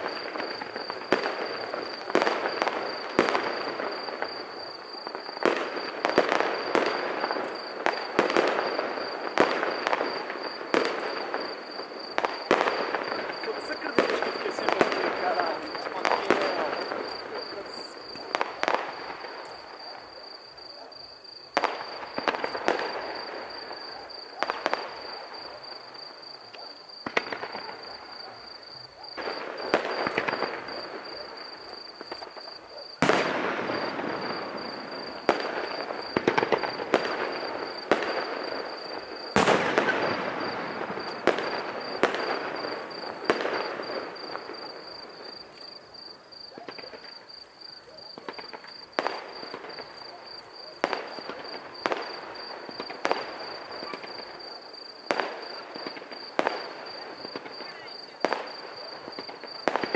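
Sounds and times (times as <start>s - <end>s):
fireworks bursting with echo: 0.0s - 59.9s.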